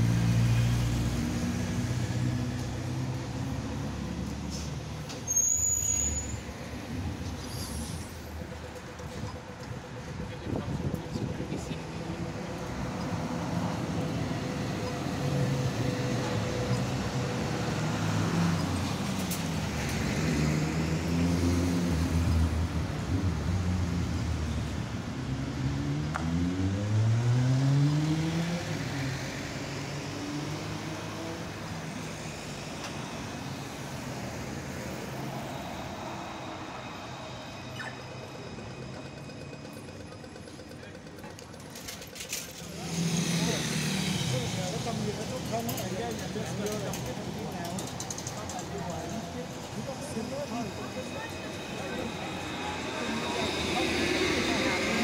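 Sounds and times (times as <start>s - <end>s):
street traffic: 0.0s - 55.0s
engine accelerating: 6.6s - 55.0s.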